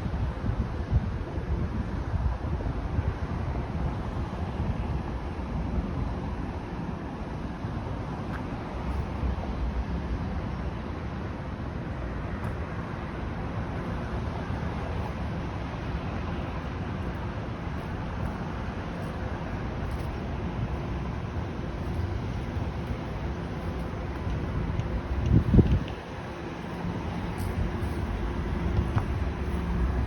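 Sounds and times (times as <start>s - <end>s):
wind on microphone: 0.0s - 10.9s, 12.1s - 30.0s
low outdoor rumble: 0.0s - 30.0s.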